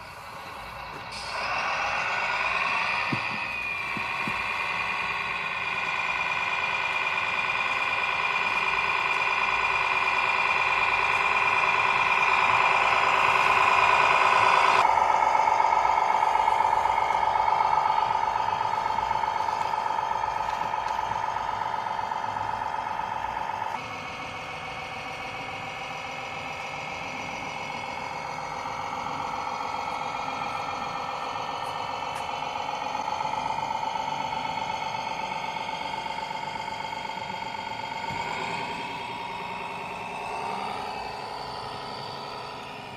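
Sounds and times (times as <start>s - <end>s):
model trucks mechanical whine: 0.0s - 42.9s.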